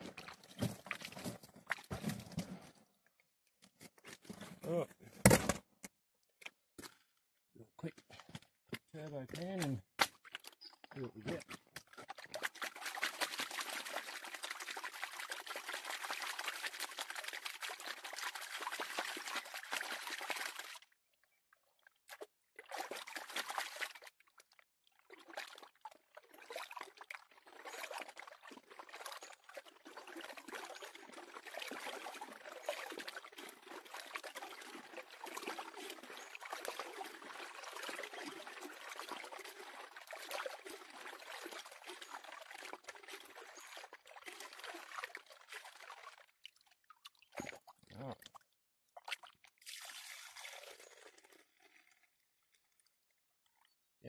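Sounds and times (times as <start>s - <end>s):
water sloshing in gold pan: 0.0s - 2.8s, 9.3s - 20.9s, 21.9s - 48.4s, 49.0s - 53.0s.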